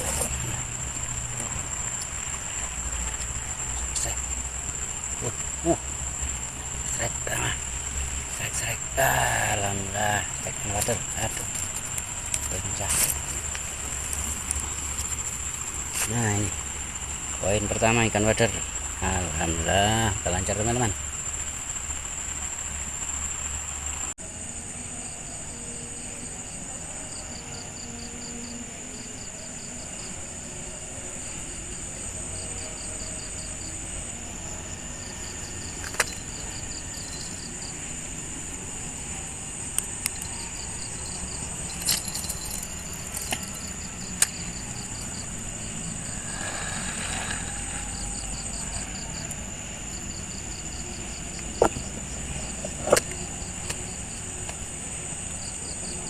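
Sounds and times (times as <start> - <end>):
continuous hiss: 0.0 - 56.0
high-pitched insect whine: 0.0 - 56.0
rapid cricket chirps: 0.0 - 56.0.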